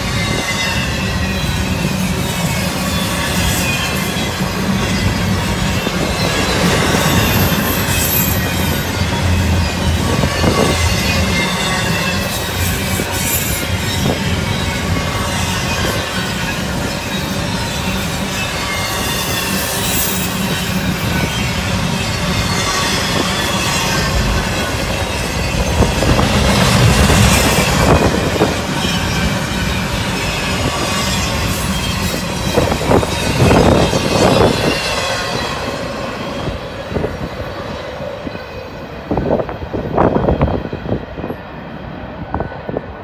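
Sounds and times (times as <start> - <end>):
wheel squeal: 0.0 - 37.1
train wheels rumbling on rail: 0.0 - 43.0.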